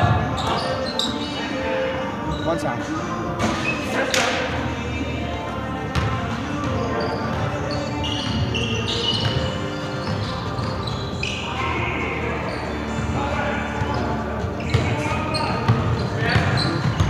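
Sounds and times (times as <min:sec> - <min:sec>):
sneakers squeaking on floor: 0:00.0 - 0:05.0, 0:05.7 - 0:17.0.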